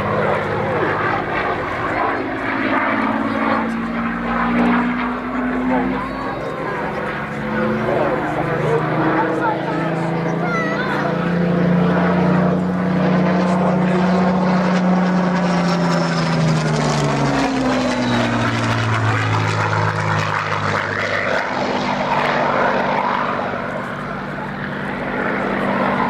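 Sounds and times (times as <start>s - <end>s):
propeller plane engine flying past: 0.0s - 26.0s.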